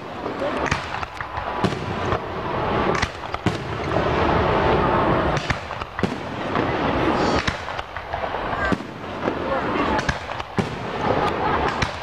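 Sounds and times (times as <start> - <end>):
firework shells bursting: 0.0 - 4.2, 5.3 - 12.0.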